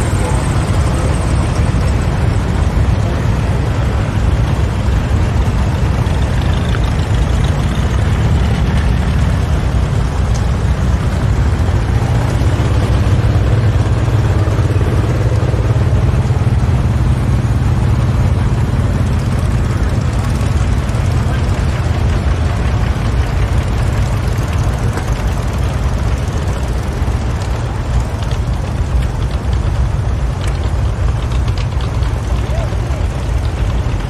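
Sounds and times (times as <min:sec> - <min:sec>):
tractor engine rumbling: 0:00.0 - 0:34.0.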